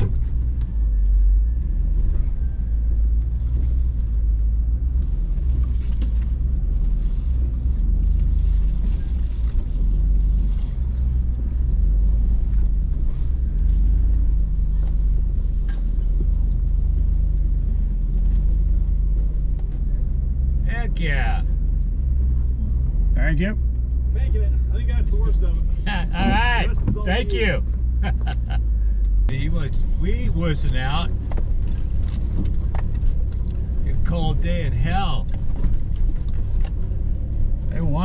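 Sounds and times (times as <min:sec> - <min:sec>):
engine rumbling at low revs: 0:00.0 - 0:38.0.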